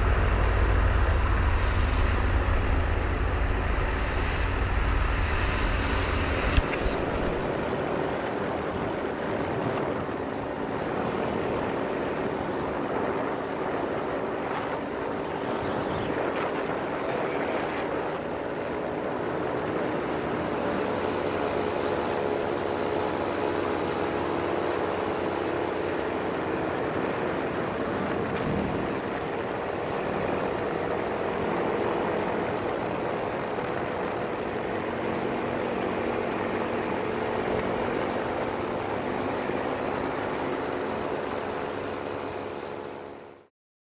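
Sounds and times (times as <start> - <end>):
wind rushing over microphone: 0.0 - 23.2, 23.8 - 42.4
paramotor engine droning: 0.0 - 43.5.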